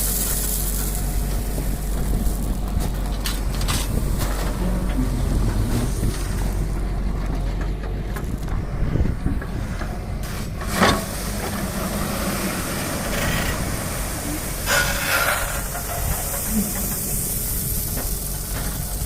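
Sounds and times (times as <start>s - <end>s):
diesel machinery rumbling: 0.0s - 19.0s
rattling noise: 0.7s - 19.0s.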